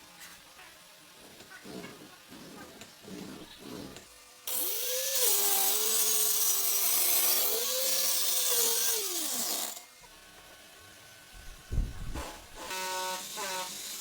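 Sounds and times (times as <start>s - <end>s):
angle grinder cutting wood: 1.3s - 10.8s, 11.4s - 14.0s.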